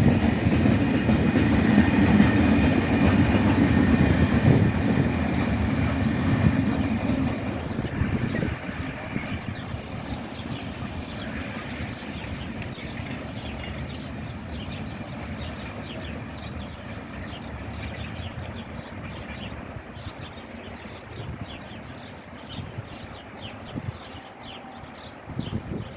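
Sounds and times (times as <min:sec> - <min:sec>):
freight train rumbling: 0:00.0 - 0:25.9.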